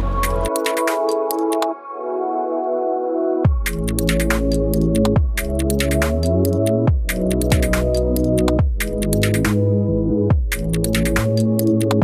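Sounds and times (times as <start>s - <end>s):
electronic synth music: 0.0s - 12.0s.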